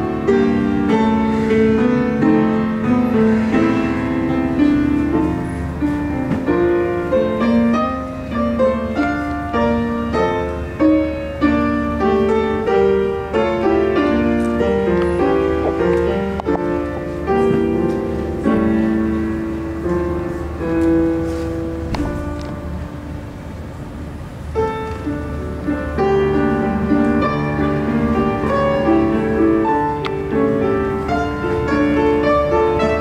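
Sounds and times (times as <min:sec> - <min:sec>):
grand piano playing: 0:00.0 - 0:33.0.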